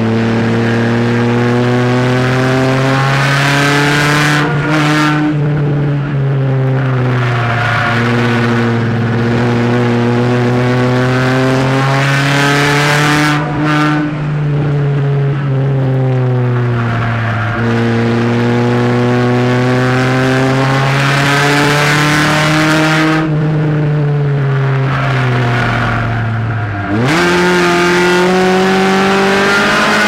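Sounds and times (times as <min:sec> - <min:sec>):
race car engine running hard: 0:00.0 - 0:30.0.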